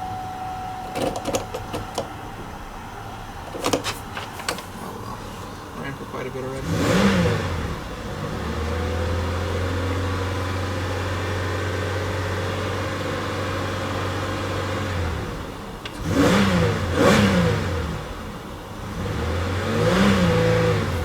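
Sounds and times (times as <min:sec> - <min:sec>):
car engine running and revving: 0:04.1 - 0:21.0.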